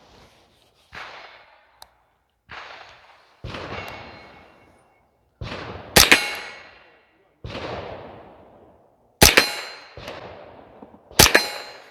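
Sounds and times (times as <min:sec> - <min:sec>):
rifle shots with echo: 0:00.9 - 0:01.8, 0:02.4 - 0:11.9.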